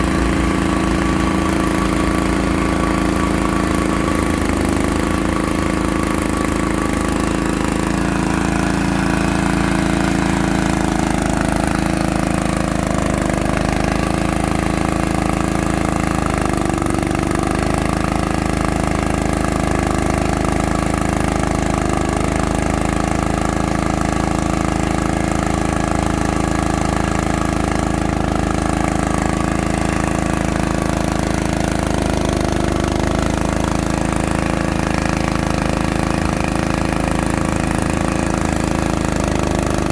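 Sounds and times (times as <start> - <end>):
core drilling machine engine: 0.0 - 39.9.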